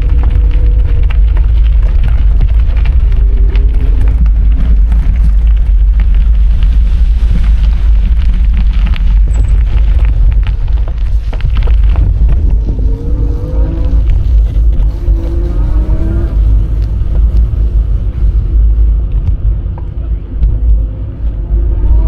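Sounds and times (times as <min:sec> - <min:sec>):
small clicks and rattles: 0:00.0 - 0:17.8
wind buffeting microphone: 0:00.0 - 0:22.0.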